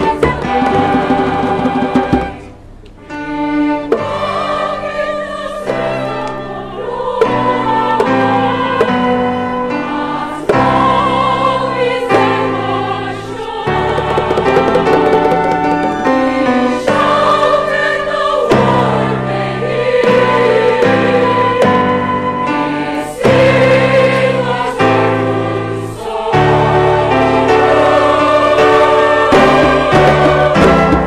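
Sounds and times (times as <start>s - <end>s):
choir singing sustained notes: 0.0s - 31.0s.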